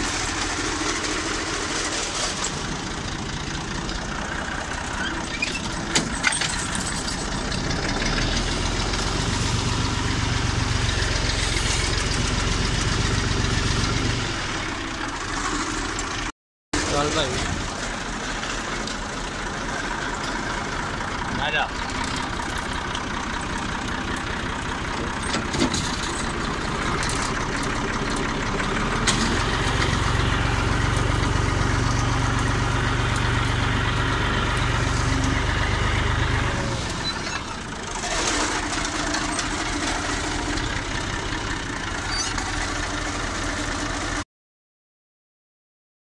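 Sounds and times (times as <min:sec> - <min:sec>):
tractor diesel engine running: 0:00.0 - 0:44.2.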